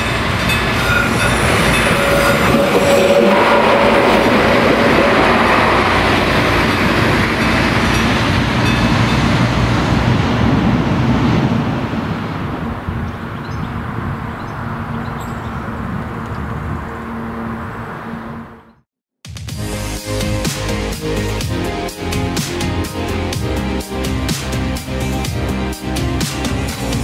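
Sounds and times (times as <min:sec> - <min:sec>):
passenger train passing: 0:00.0 - 0:18.7, 0:19.6 - 0:27.0.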